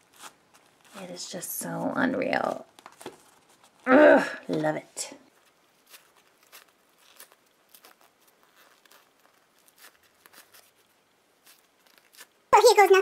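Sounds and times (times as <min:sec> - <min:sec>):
foam toy rustling: 0:00.0 - 0:03.9, 0:04.5 - 0:13.0.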